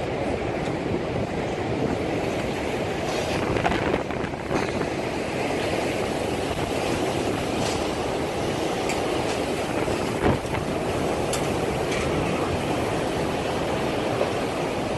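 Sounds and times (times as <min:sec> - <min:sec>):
storm wind buffeting microphone: 0:00.0 - 0:14.9.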